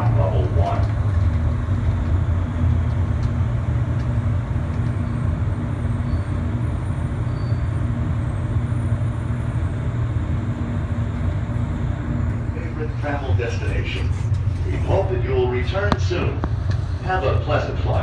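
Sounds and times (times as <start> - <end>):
shuttle train rumble and hum: 0.0 - 18.0.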